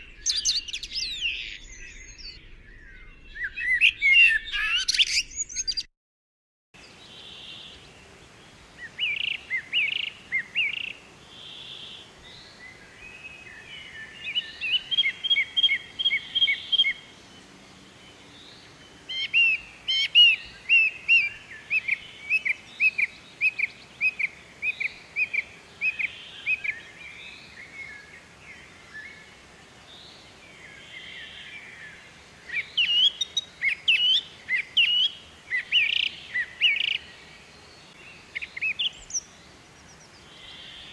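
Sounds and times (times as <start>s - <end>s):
birds chirping: 0.0s - 5.9s, 6.8s - 40.9s
faint background hiss: 6.8s - 40.9s.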